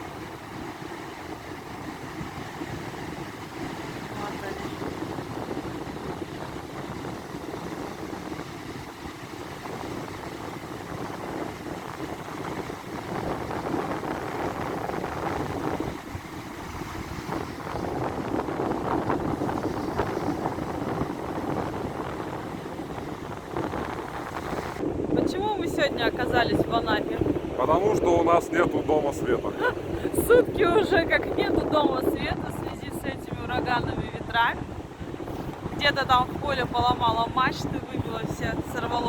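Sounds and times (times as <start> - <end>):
stormy sea surf: 0.0 - 39.0
strong wind buffeting microphone: 0.0 - 39.0.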